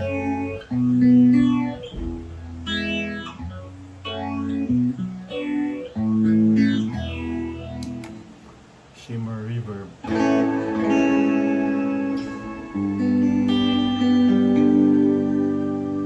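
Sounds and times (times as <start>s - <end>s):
guitar with reverb: 0.0s - 8.6s, 10.0s - 16.0s.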